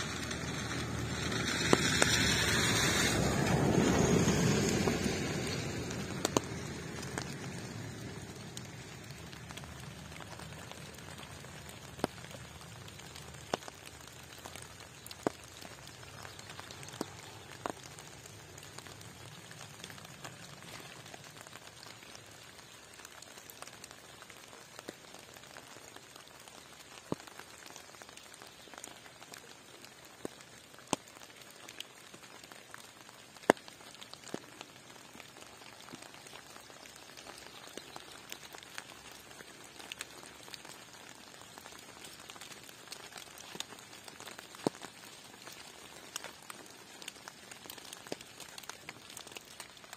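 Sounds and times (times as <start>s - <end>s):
light rain hiss: 0.0s - 49.9s
raindrops ticking on surface: 0.0s - 49.9s.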